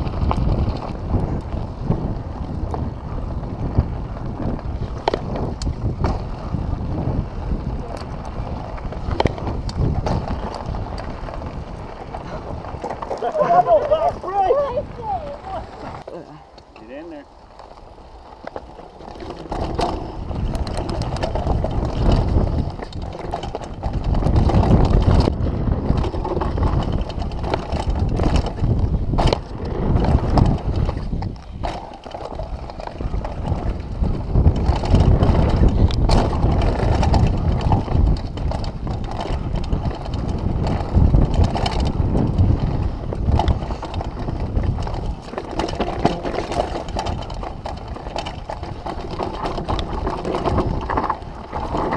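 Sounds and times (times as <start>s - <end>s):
bike rattling over bumps: 0.0s - 51.9s
bike tyres rumbling on dirt: 0.0s - 51.9s
wind: 0.0s - 51.9s.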